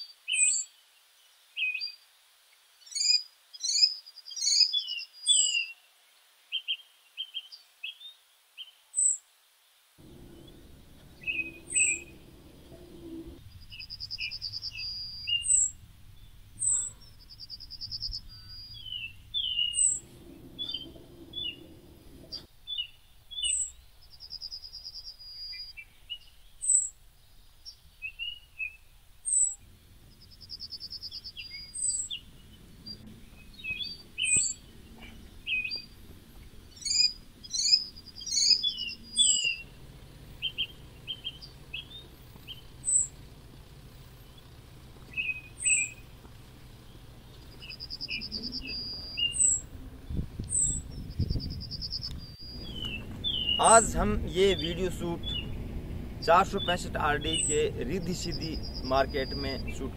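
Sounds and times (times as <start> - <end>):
faint low background noise: 0.0 - 59.9
birds chirping and singing: 10.0 - 59.9
buzzy bird trill: 10.0 - 59.9.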